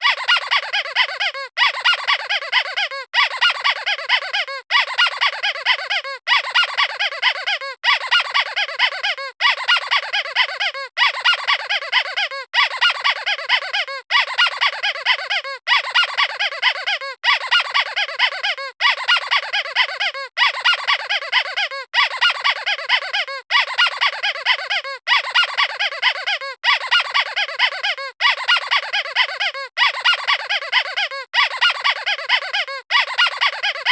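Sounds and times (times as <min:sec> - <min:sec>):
squeaky toy squeaking: 0:00.0 - 0:33.9.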